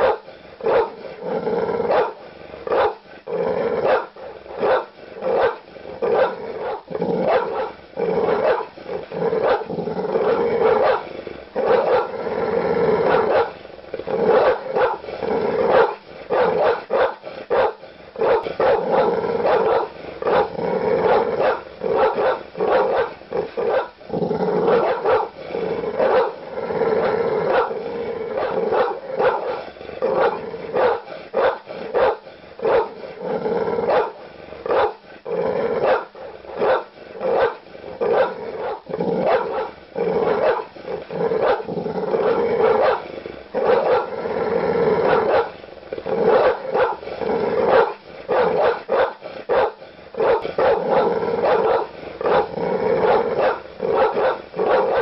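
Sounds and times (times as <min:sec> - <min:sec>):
dog growling: 0:00.0 - 0:55.0
large dog barking aggressively: 0:00.0 - 0:55.0.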